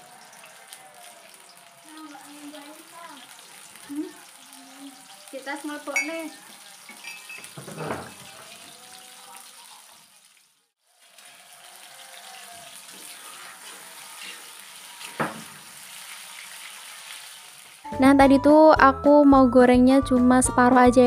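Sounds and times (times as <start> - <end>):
tofu sizzling in hot oil: 0.0 - 17.9.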